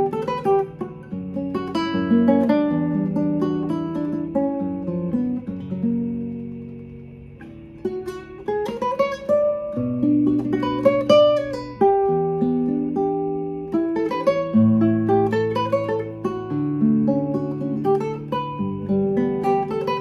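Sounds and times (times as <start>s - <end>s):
classical guitar fingerstyle melody: 0.0s - 20.0s.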